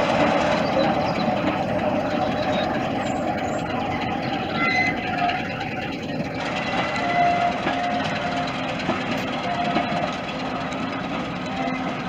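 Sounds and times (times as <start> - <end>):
diesel locomotive running: 0.0 - 12.0.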